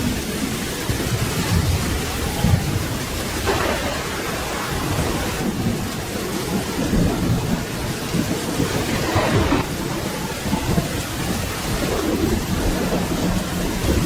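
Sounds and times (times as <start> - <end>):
low thunder rumble: 0.0 - 14.0
steady rain: 0.0 - 14.0.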